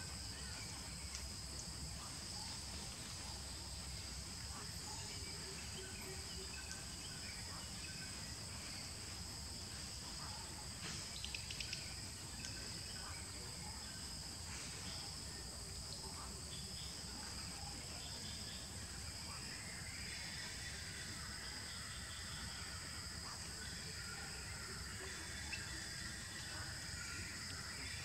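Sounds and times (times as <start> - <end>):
high-pitched insect drones: 0.0 - 28.0.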